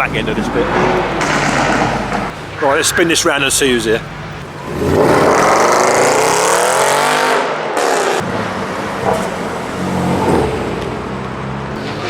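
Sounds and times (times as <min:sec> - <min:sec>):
low drone of car engines: 0:00.0 - 0:12.0
car engine revs dropping: 0:00.1 - 0:02.5, 0:04.0 - 0:12.0.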